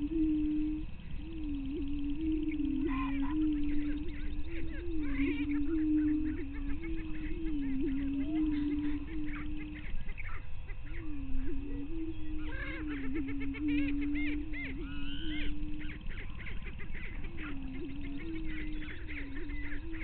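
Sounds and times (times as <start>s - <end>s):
bird cackling and whooping: 0.0s - 20.0s
birds booming low hoots: 0.0s - 20.0s.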